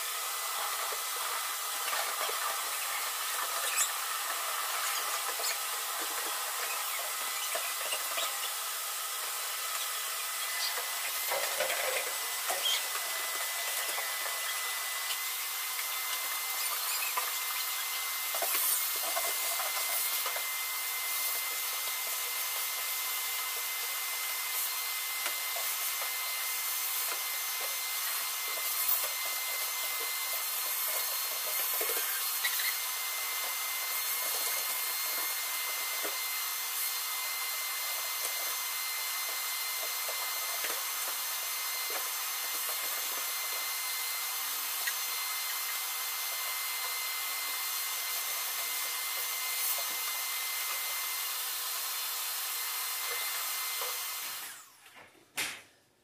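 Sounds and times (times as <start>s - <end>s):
shop vacuum running: 0.0s - 55.6s.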